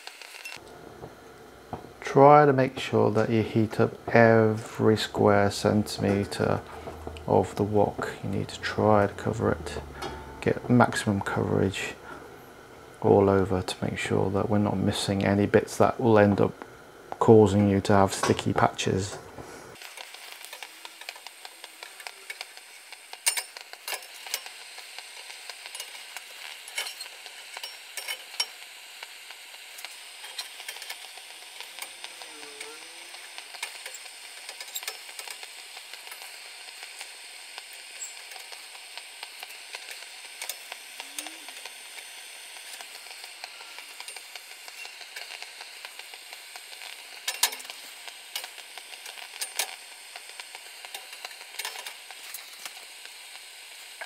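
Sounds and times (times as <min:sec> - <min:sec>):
gas burner hissing: 0:00.0 - 0:54.0.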